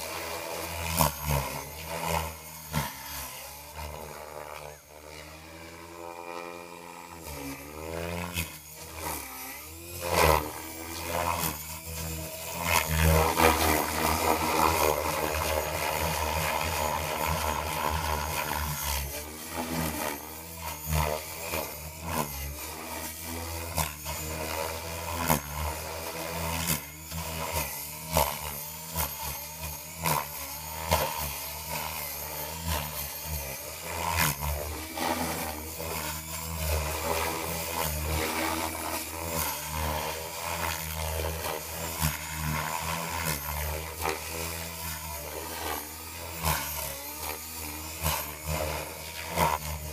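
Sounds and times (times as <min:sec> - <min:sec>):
model helicopter motor whine: 0:00.0 - 0:49.9.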